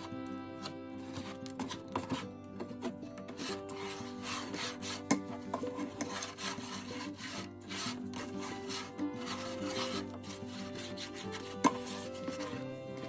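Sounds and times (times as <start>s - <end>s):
wooden spatula scraping pan: 0.0s - 13.0s.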